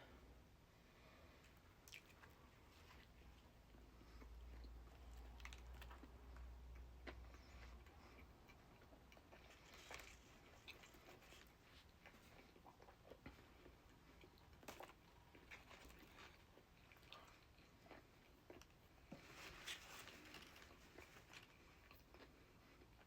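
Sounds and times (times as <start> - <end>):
faint chewing: 1.3 - 23.0.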